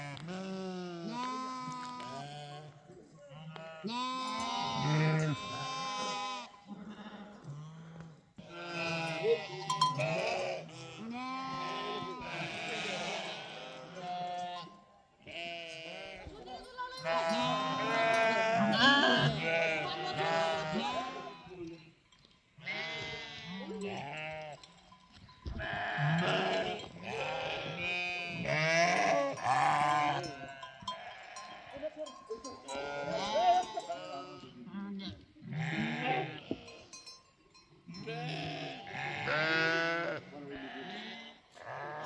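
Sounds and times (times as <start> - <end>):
sheep bleating: 0.0 - 21.7, 22.6 - 24.7, 25.6 - 36.9, 37.9 - 42.0.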